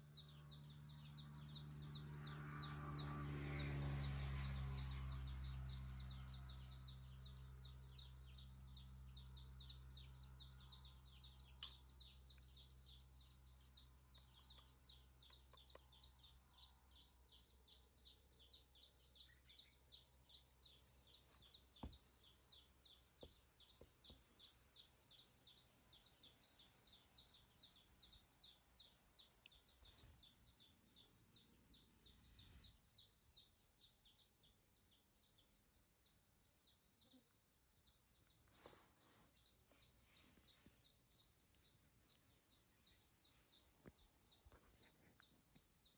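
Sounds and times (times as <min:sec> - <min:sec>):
faint high chirping: 0:08.0 - 0:45.9.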